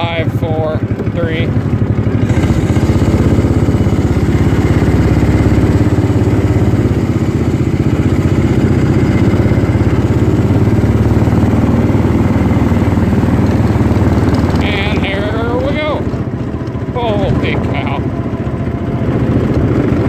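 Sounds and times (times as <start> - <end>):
small engine puttering: 0.0 - 20.0.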